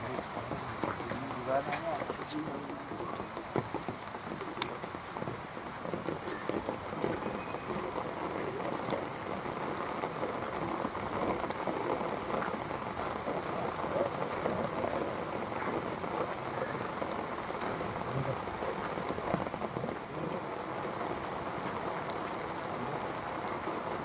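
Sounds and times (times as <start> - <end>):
drops splashing into puddles: 0.0 - 22.7
heavy rain on paving and trees: 0.0 - 24.0.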